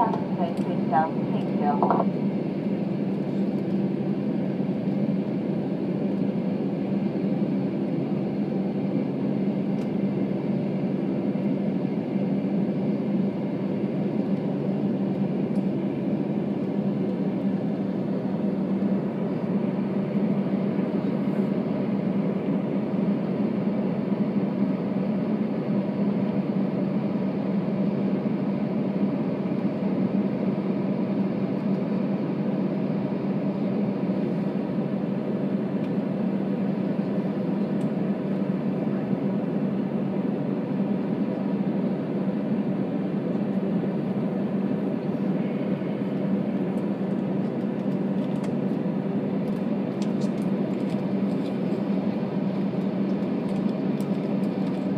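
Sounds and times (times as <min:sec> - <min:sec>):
jet airliner cabin engine drone: 0:00.0 - 0:54.9.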